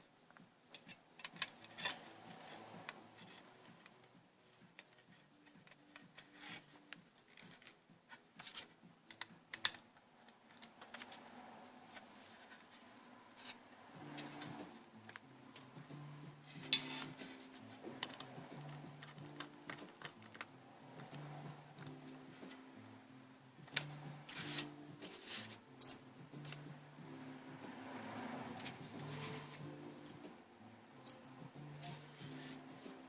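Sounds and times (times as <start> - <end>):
quiet background music: 0.0 - 33.0.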